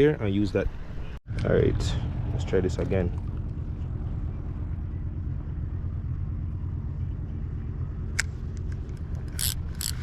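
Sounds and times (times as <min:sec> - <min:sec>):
low hum: 0:00.7 - 0:10.0
low rumble: 0:00.8 - 0:10.0.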